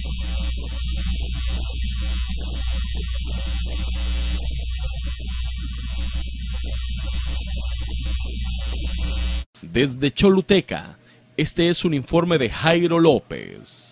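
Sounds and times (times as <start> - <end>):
electrical mains hum: 0.0 - 13.9.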